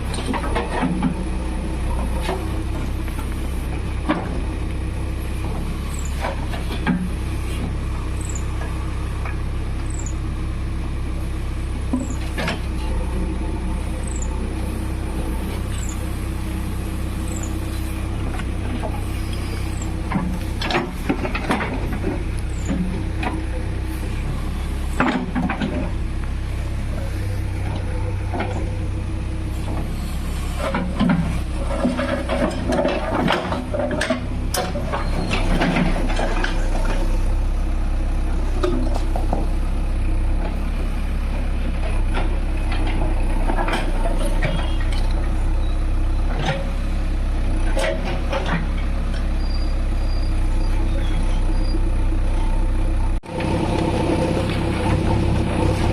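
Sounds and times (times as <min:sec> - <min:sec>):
diesel engine running under work: 0:00.0 - 0:55.9.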